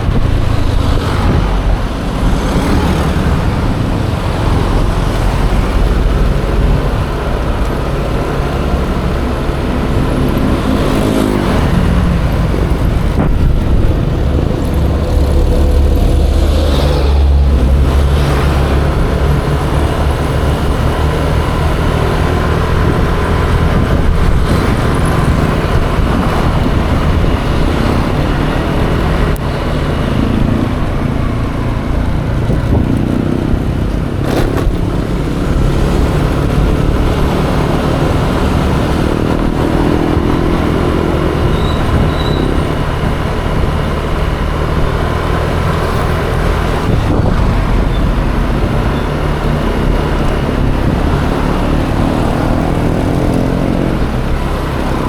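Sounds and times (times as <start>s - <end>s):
road and traffic noise: 0.0s - 55.0s.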